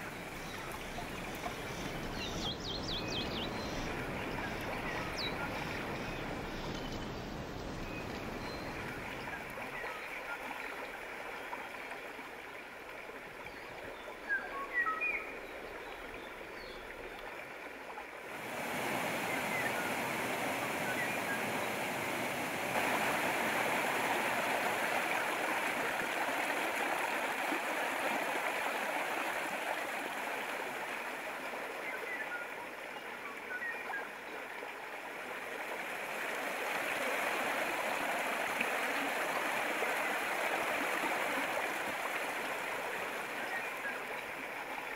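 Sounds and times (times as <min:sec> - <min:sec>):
flowing water: 0:00.0 - 0:44.9.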